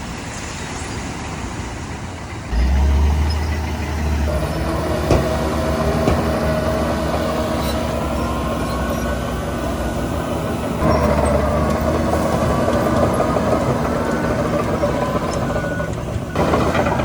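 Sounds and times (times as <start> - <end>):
diesel machinery engine drone: 1.8 - 17.0.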